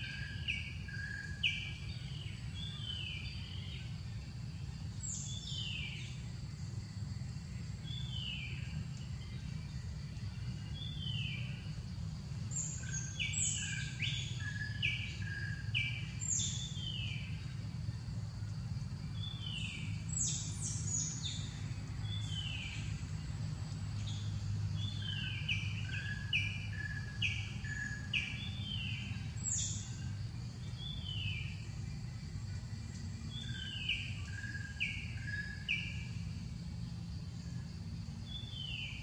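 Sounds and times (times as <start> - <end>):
low background rumble: 0.0 - 39.0.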